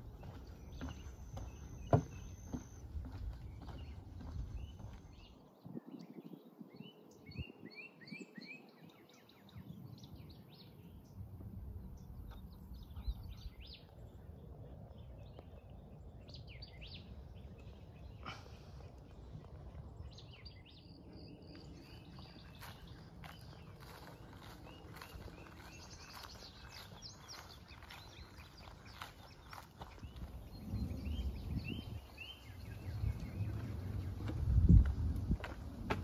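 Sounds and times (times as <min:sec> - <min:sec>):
wild birds calling and singing: 0:00.0 - 0:36.0.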